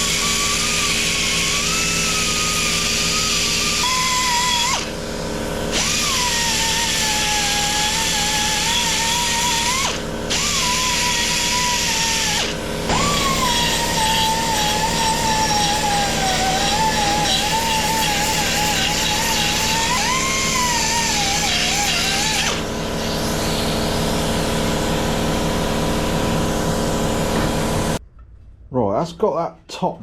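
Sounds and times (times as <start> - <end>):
belt grinder grinding metal: 0.0 - 27.6.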